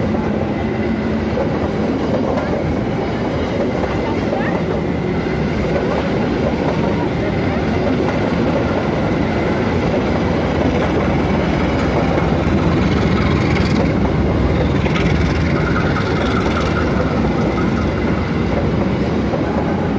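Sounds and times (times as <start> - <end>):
diesel train rumbling past: 0.0 - 19.9.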